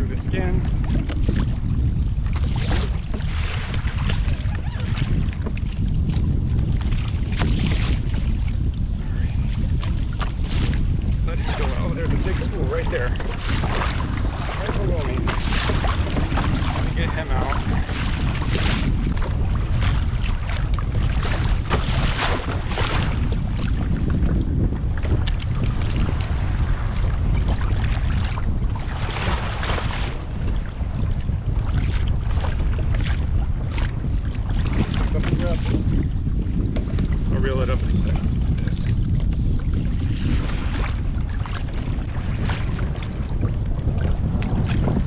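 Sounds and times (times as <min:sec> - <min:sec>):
water slapping kayak hull: 0:00.0 - 0:45.0
wind buffeting microphone: 0:00.0 - 0:45.0.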